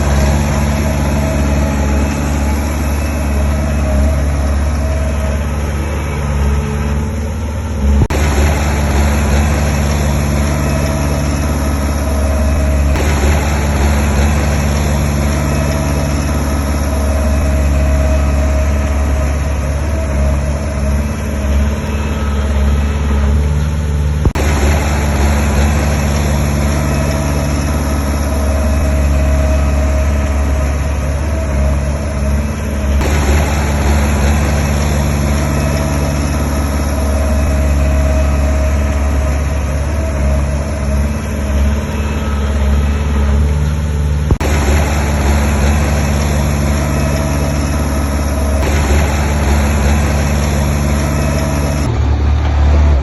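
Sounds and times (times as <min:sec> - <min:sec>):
diesel machinery engines running: 0:00.0 - 0:53.0.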